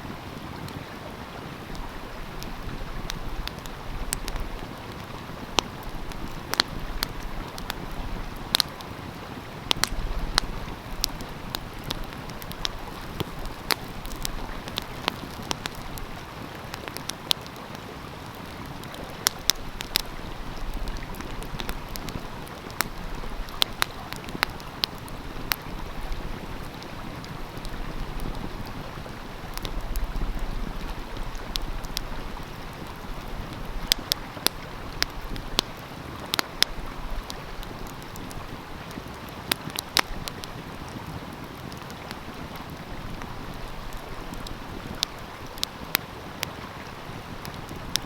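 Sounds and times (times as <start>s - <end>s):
stream flowing: 0.0s - 48.0s
wood fire crackling: 0.0s - 48.0s.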